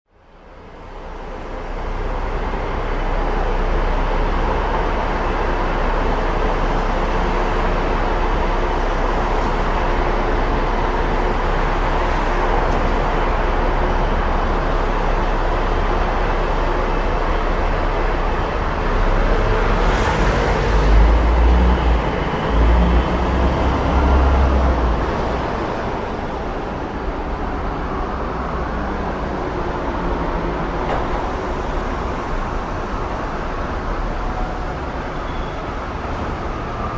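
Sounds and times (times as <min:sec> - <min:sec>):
road traffic passing: 0:00.2 - 0:36.9
heavy vehicle rumbling past: 0:00.7 - 0:36.9.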